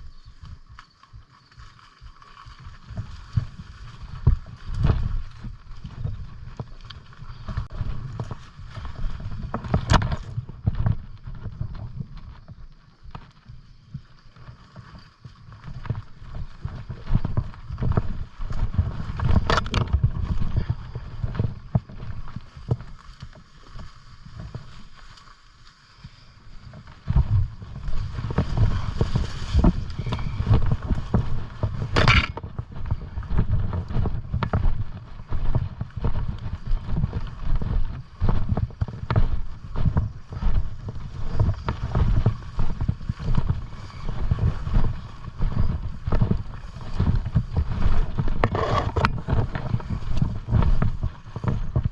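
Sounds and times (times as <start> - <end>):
rustling: 0.0 - 51.9.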